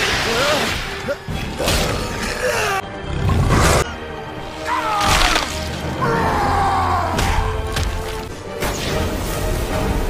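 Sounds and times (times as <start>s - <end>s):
dramatic score music: 0.0s - 10.0s.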